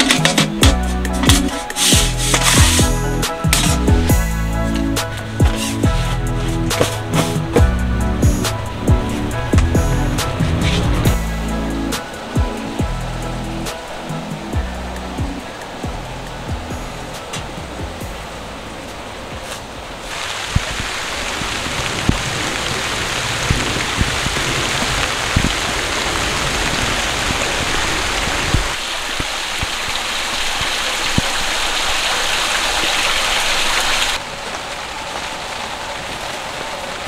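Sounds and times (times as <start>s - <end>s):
heavy rain falling: 0.0s - 37.0s
loud raindrops striking close by: 0.0s - 37.0s.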